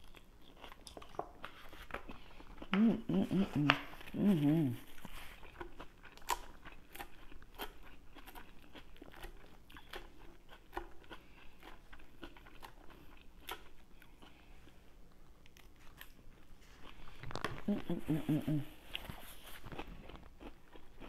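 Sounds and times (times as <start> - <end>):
chewing crisp salad greens: 0.0 - 21.0.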